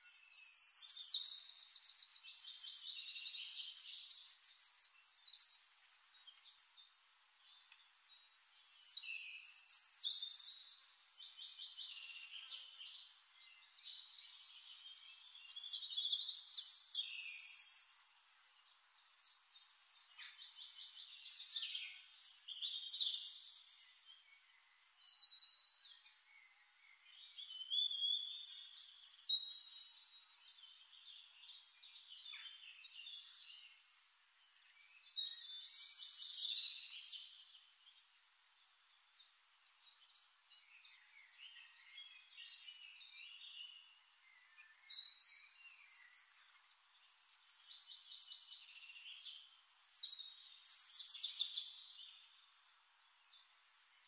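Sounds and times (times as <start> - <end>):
birdsong whistles and chirps: 0.0 - 54.0
faint hiss: 0.0 - 54.0.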